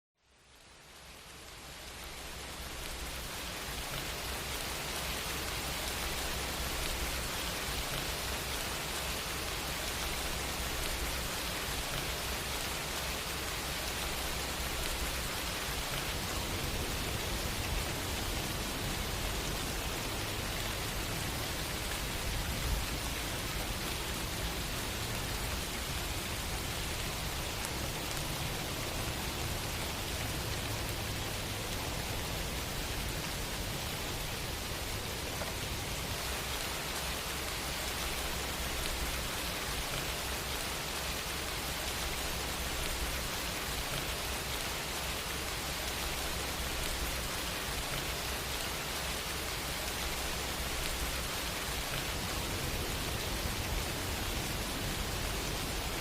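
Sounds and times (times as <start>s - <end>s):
steady rain hiss: 0.2s - 56.0s.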